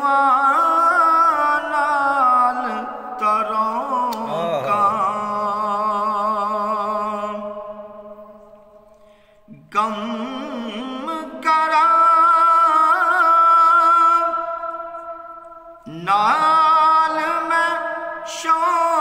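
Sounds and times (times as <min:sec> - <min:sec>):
man singing unaccompanied: 0:00.0 - 0:07.8, 0:09.5 - 0:14.7, 0:15.8 - 0:19.0.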